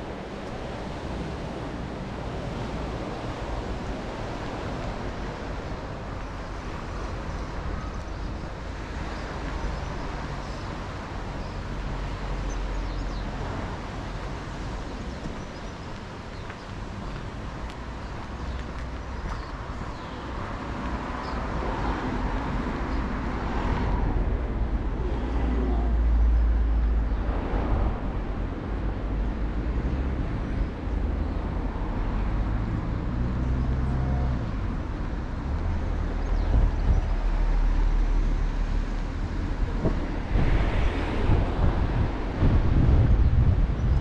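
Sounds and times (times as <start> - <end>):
cars passing: 0.0 - 44.0
wind on microphone: 0.0 - 44.0.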